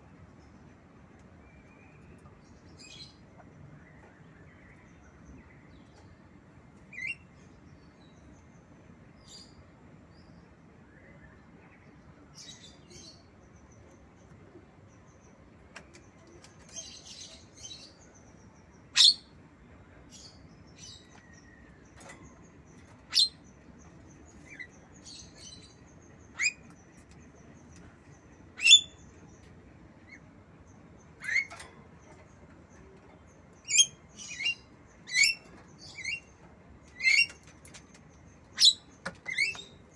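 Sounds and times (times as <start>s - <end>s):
soft bird chatter: 0.0s - 39.9s.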